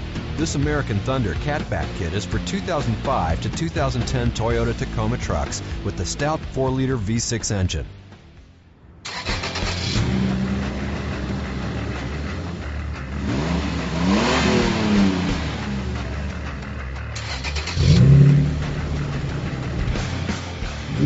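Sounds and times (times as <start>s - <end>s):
truck engine idling and revving: 0.0s - 6.9s, 9.0s - 21.0s.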